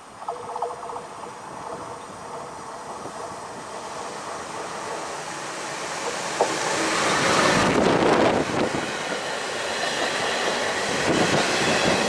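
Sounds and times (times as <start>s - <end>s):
electric freight train running: 0.0s - 12.0s.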